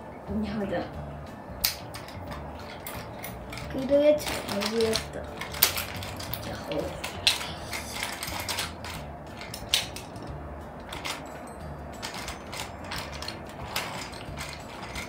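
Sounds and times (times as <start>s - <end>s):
low uneven rumble: 0.0s - 15.0s
toy train plastic clicks: 1.6s - 15.0s.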